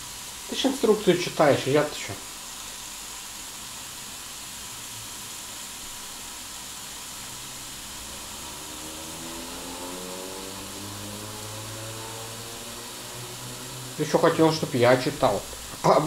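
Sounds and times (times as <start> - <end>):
meat sizzling on a grill: 0.0 - 16.0.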